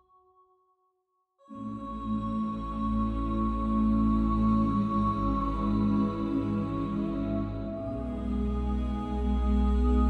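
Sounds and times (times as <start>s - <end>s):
calm ambient music: 1.4s - 10.0s.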